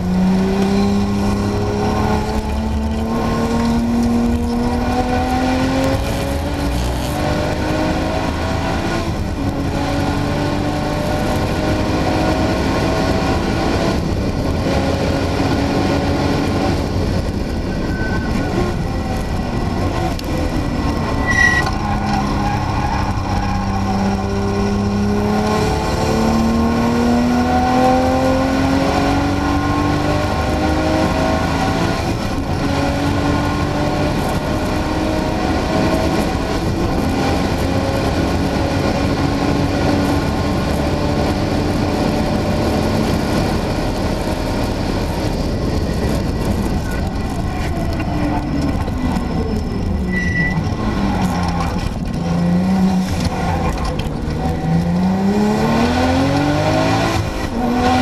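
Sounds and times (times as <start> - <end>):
sports car engine accelerating: 0.0 - 58.0
wind noise: 0.0 - 58.0.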